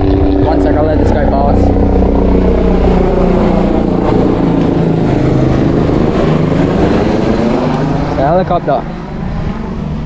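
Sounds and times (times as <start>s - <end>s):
helicopter passing by: 0.0s - 10.0s.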